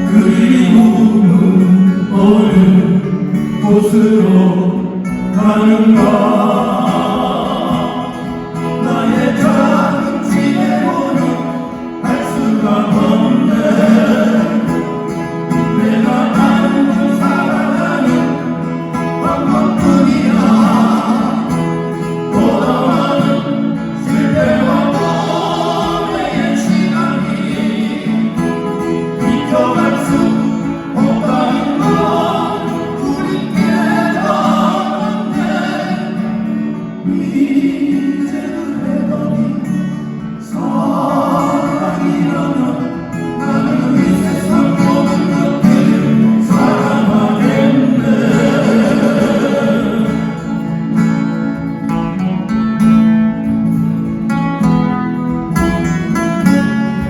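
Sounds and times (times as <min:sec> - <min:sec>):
men singing in harmony: 0:00.0 - 0:51.4
strummed acoustic guitars: 0:00.0 - 0:57.0.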